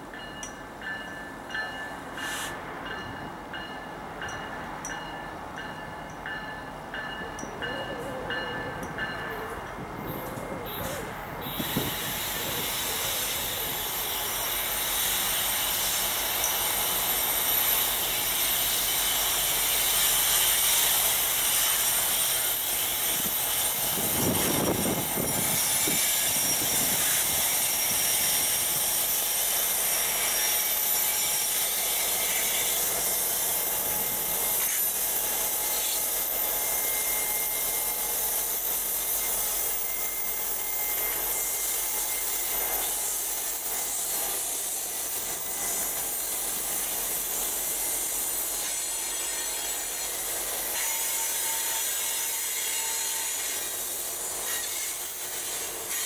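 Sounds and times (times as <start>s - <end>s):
high-pitched wheel noise on rail: 0.0s - 56.0s.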